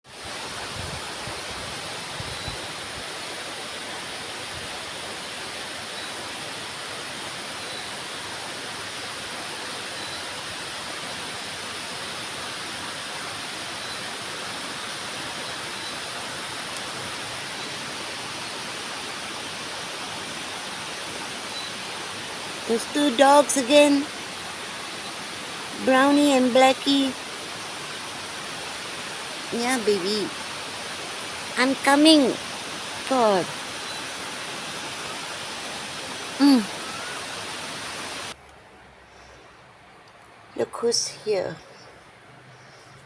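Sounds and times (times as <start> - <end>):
steady rain falling: 0.1 - 41.0.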